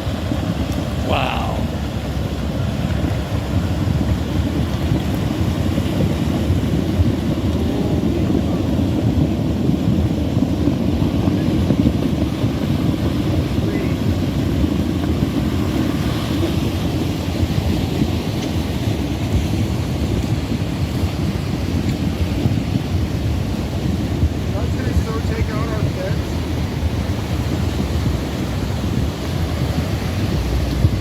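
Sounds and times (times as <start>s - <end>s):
flood water rushing: 0.0s - 31.0s.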